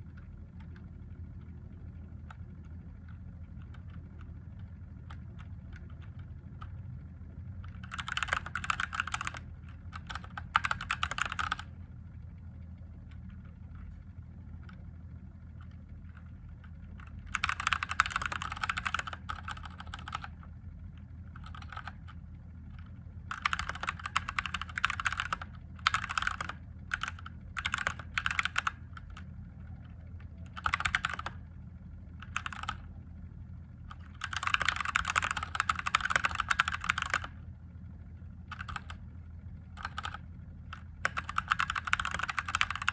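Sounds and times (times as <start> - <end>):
mechanical keyboard typing: 0.0 - 6.8, 7.6 - 11.8, 15.5 - 32.9, 33.9 - 37.4, 38.4 - 39.1, 39.8 - 42.9.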